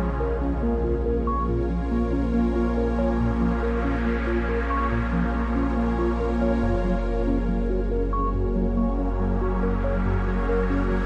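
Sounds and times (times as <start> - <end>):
soft new-age electronic music: 0.0 - 11.0.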